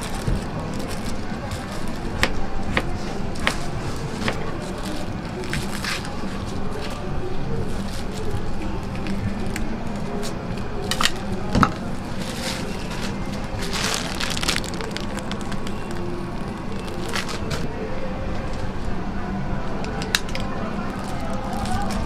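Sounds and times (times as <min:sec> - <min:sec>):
music: 0:00.0 - 0:22.0.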